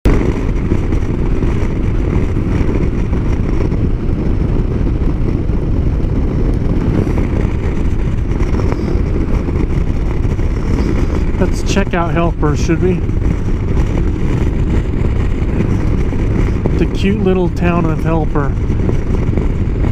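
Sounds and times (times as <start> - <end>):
motorcycle engine: 0.0 - 19.9
wind buffeting microphone: 0.0 - 19.9.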